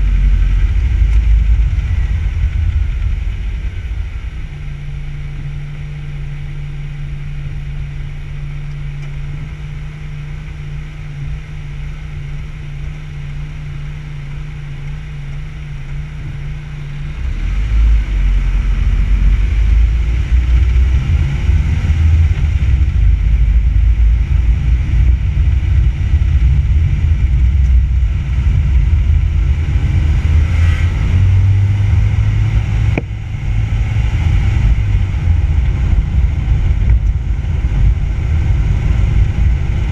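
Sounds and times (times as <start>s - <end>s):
car driving rumble: 0.0s - 39.9s
car engine idling: 0.0s - 39.9s.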